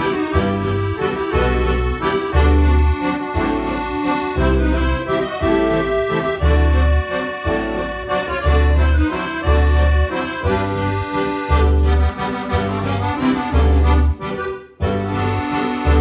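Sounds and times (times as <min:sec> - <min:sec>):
accordion melody over chords: 0:00.0 - 0:16.0
deep bass notes: 0:00.0 - 0:16.0.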